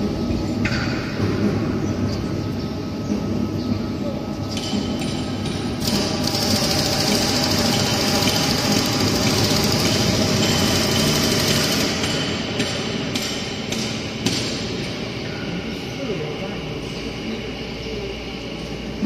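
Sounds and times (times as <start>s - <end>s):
hydraulic press humming: 0.0s - 19.0s.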